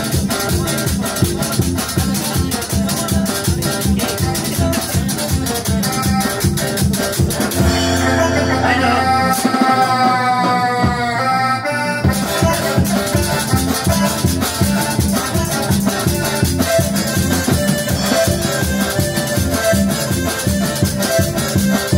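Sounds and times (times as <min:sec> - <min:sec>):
live band playing latin dance music: 0:00.0 - 0:21.9.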